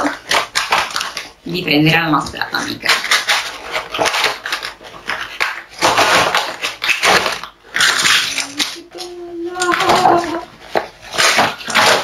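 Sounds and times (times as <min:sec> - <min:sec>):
cardboard rustling and scraping: 0:02.2 - 0:12.0.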